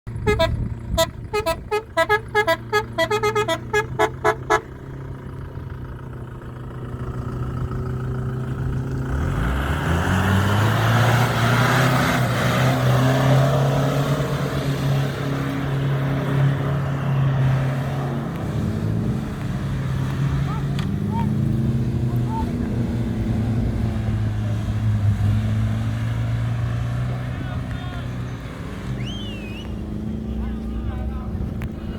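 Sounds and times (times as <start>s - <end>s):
car engine revving: 0.1s - 31.9s
low engine hum: 0.1s - 31.9s.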